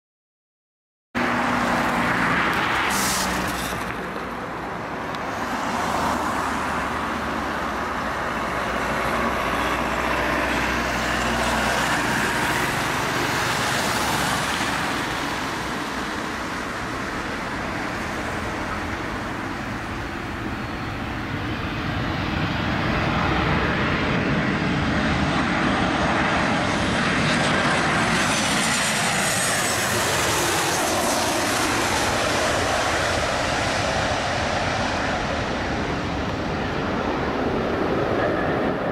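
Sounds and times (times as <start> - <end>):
high jet engine whine: 1.2 - 38.9
jet engine rushing drone: 1.2 - 38.9.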